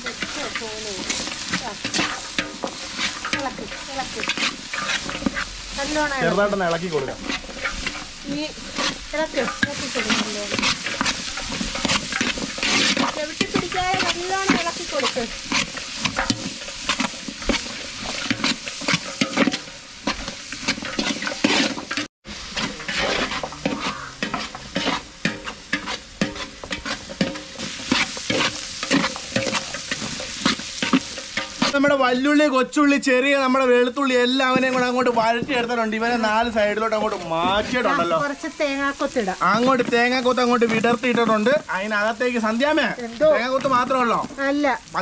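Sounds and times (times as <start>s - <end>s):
spatula scraping metal pot: 0.0s - 31.8s, 34.0s - 41.7s
onions sizzling in oil: 0.0s - 45.0s.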